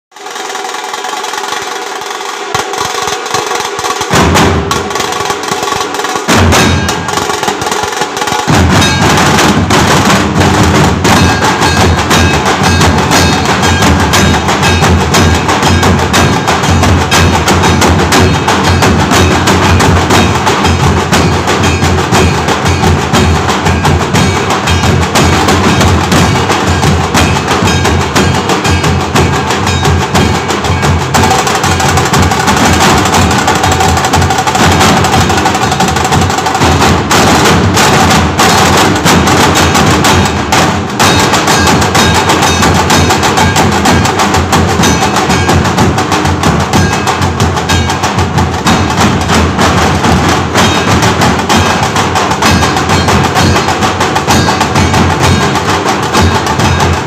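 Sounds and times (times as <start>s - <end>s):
drum group loud continuous beat: 0.1s - 57.0s
rapid sharp snare drum strokes: 0.1s - 57.0s
deep drum beats: 0.2s - 57.0s.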